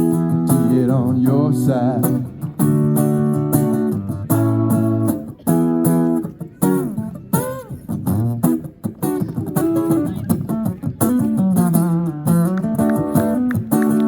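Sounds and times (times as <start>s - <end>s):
guitar strumming chords: 0.0s - 14.0s.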